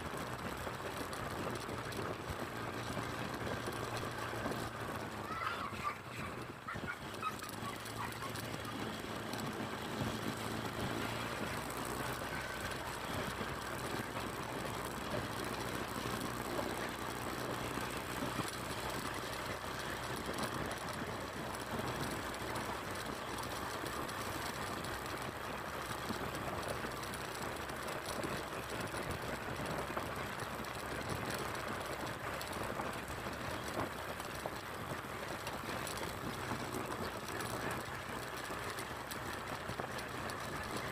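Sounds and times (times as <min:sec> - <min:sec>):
small vehicle riding on concrete: 0:00.0 - 0:40.9.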